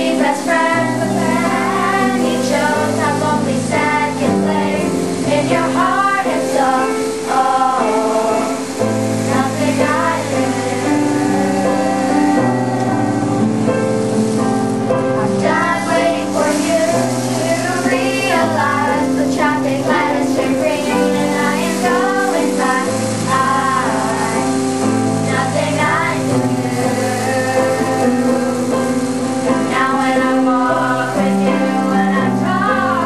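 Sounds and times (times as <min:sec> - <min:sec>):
high voices singing: 0:00.0 - 0:33.0
sustained held chords: 0:00.0 - 0:33.0.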